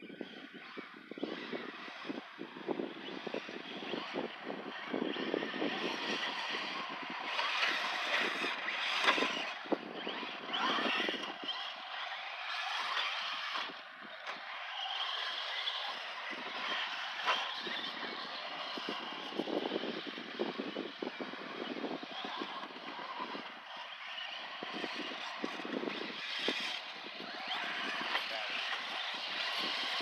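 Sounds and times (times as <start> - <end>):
electric motor whine: 0.0 - 30.0
tyres on loose dirt: 1.1 - 30.0.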